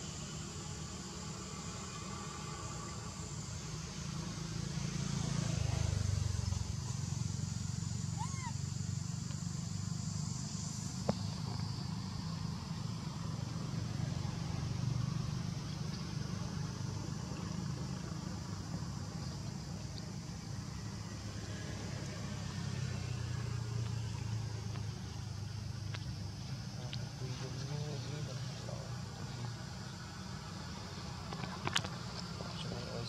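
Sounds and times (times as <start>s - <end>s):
faint high hiss: 0.0s - 33.0s
vehicle engine drone: 0.0s - 33.0s.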